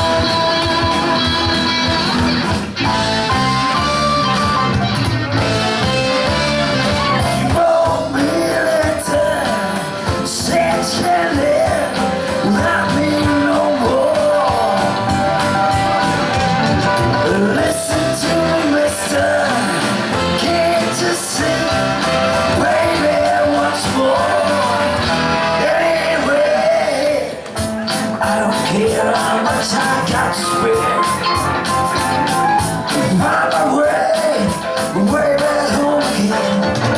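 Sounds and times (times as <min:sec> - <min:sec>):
band playing rock and roll: 0:00.0 - 0:36.9.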